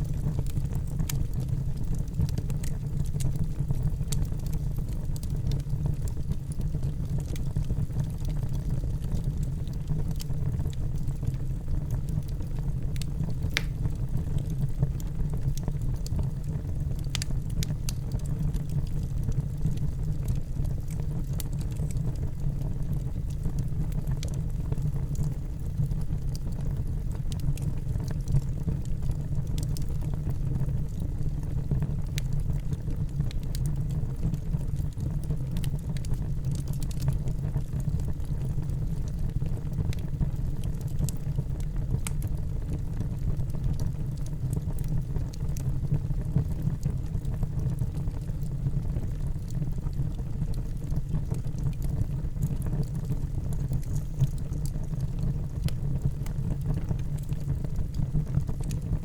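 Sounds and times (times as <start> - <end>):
fire crackling: 0.0 - 59.0
flames rumbling in fireplace: 0.0 - 59.0.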